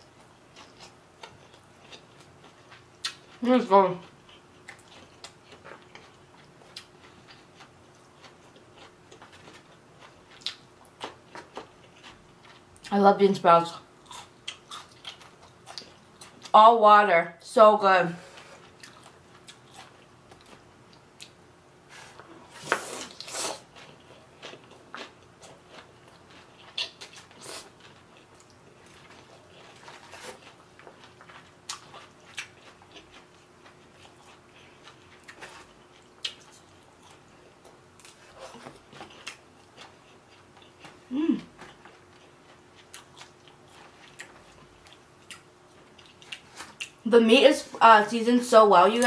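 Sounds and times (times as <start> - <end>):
close chewing of noodles: 0.1 - 12.9, 13.9 - 16.5, 18.3 - 21.4, 22.0 - 47.1.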